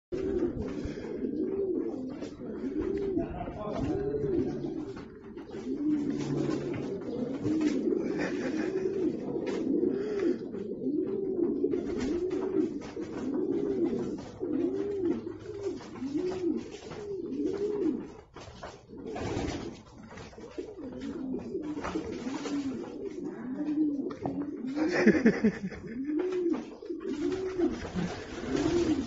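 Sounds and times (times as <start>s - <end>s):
pigeon cooing: 0.1s - 29.0s.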